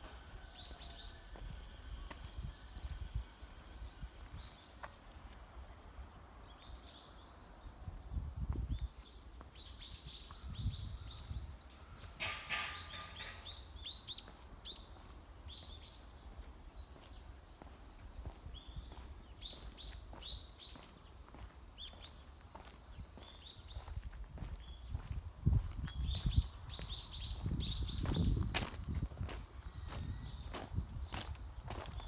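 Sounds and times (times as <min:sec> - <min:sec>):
small birds chirping: 0:00.7 - 0:32.0.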